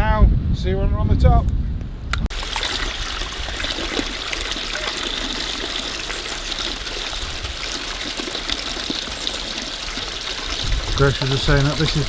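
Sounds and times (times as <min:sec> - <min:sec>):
stream trickling over stones: 0:02.3 - 0:12.0.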